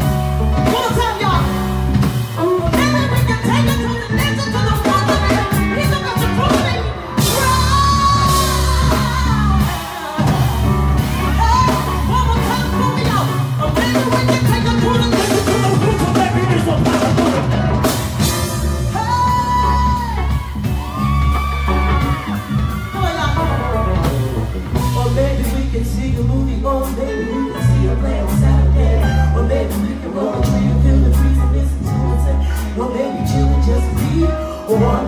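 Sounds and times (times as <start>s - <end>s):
live band playing soul music: 0.0s - 35.0s.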